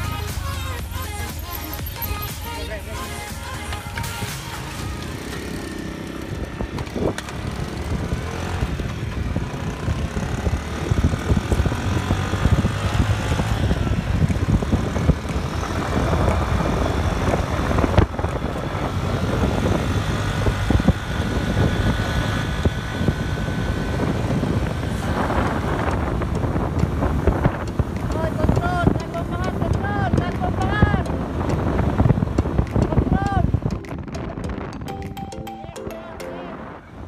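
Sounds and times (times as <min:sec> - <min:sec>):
vehicle rumble: 0:00.0 - 0:35.2
wind on microphone: 0:05.4 - 0:35.1.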